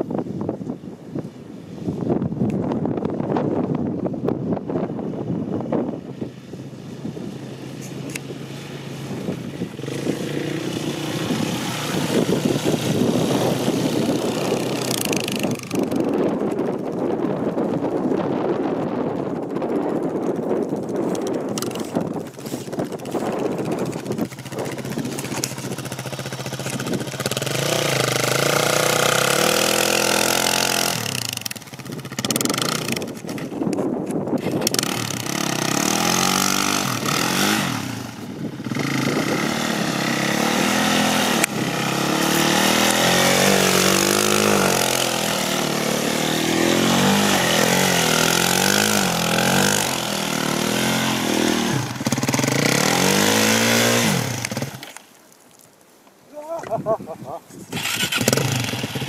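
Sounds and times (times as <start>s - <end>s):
wheels spinning in snow and mud: 1.7s - 55.7s, 56.3s - 59.0s
quad engine revving: 6.8s - 33.4s, 34.4s - 55.0s, 57.7s - 59.0s.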